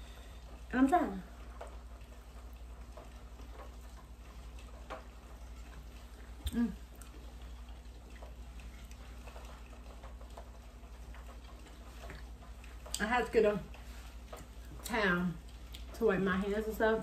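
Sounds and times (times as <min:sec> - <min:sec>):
faint chewing and mouth clicks: 0:00.0 - 0:17.0.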